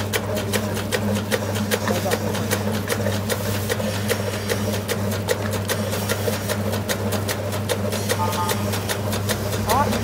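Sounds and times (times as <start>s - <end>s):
machine motor hum: 0.0s - 10.0s.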